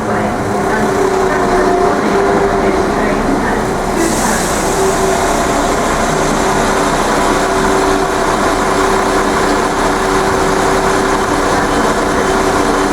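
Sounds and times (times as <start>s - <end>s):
diesel train engine idling: 0.0s - 12.9s.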